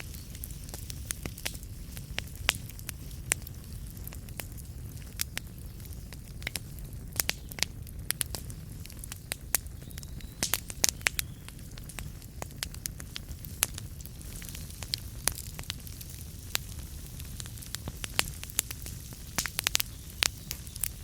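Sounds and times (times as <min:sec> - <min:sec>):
crackles and pops of burning logs: 0:00.0 - 0:21.0
low rumble of flames: 0:00.0 - 0:21.0.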